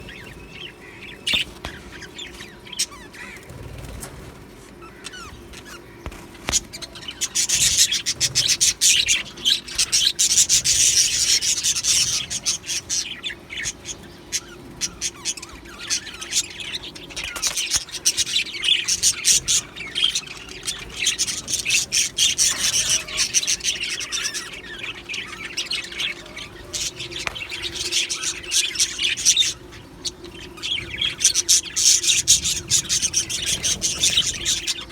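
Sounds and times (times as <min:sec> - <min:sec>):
budgerigars chattering and chirping: 0:00.0 - 0:34.9
faint steady hum: 0:00.0 - 0:34.9.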